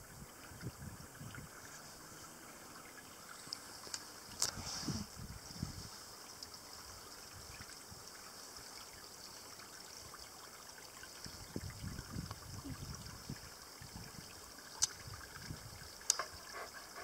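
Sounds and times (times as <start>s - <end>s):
water trickling over rocks: 0.0s - 17.0s.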